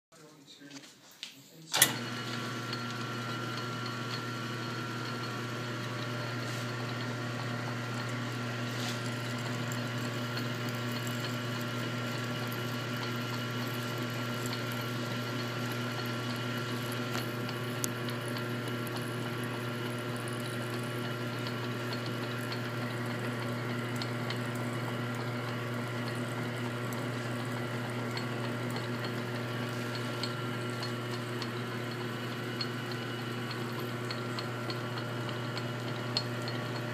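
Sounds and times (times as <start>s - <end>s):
lathe motor humming: 1.8s - 36.9s.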